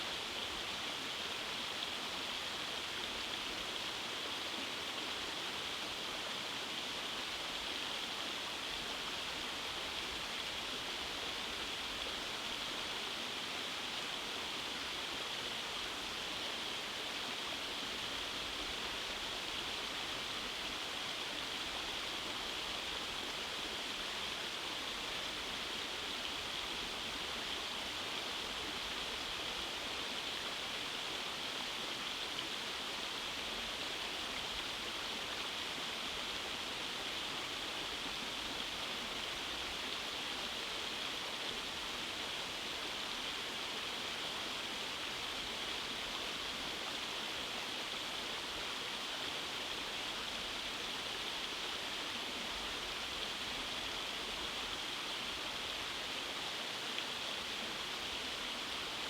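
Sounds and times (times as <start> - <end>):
stream rushing over cascades: 0.0 - 59.0.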